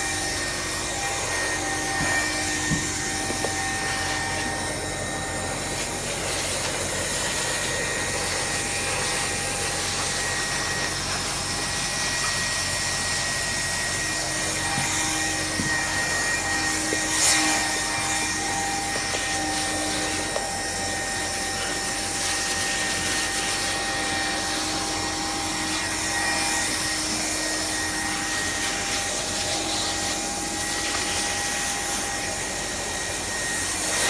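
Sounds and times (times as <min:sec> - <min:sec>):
hot-air blower whining: 0:00.0 - 0:34.0.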